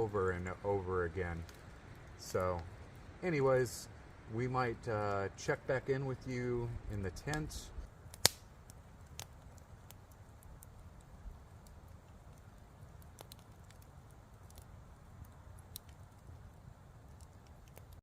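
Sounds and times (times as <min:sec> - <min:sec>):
campfire crackling and popping: 0:00.0 - 0:18.0
low steady rumble: 0:00.0 - 0:18.0.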